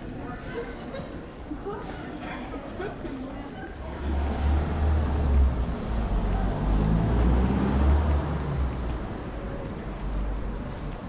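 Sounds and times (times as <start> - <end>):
city street rumble: 0.0 - 11.0.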